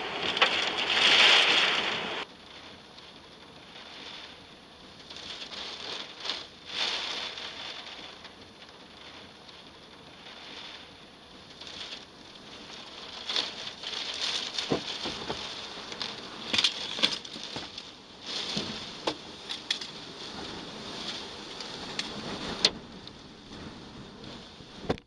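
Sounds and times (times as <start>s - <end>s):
rain: 0.0s - 25.0s
storm wind: 0.0s - 25.0s.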